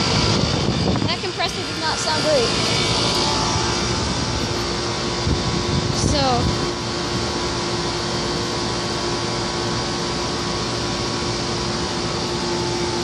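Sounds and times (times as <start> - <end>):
air conditioner fan blowing: 0.0 - 13.0
compressor hum: 0.0 - 13.0.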